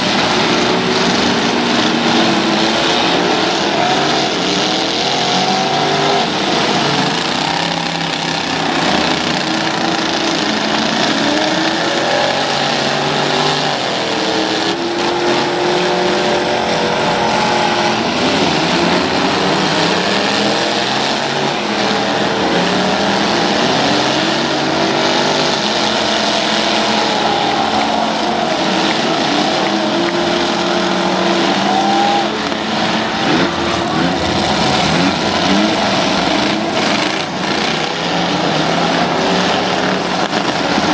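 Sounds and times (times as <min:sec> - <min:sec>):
vehicle engines revving: 0:00.0 - 0:40.9.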